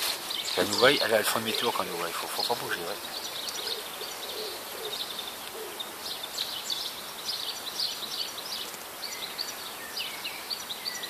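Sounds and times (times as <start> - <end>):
songbirds chirping: 0.0 - 11.0
steady outdoor hiss: 0.0 - 11.0.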